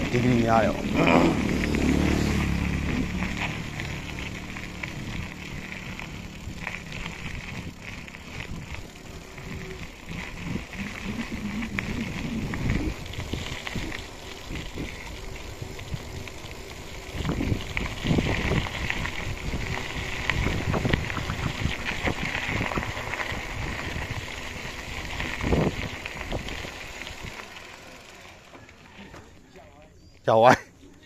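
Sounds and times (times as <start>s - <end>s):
wind rumbling on microphone: 0.0s - 27.6s
crackles: 0.0s - 31.0s.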